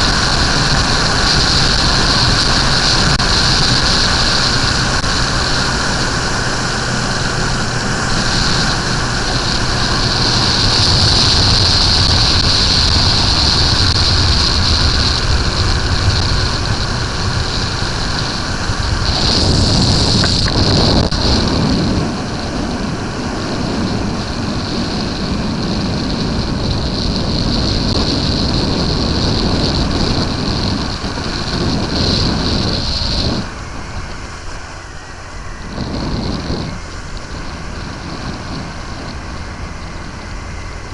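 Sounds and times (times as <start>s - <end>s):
motorcycle engine drone: 0.0s - 40.9s
wind rush on microphone: 0.0s - 40.9s.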